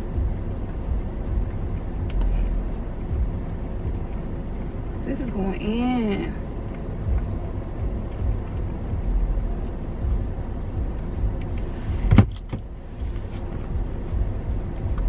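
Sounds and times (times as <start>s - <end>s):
low car rumble: 0.0s - 15.0s.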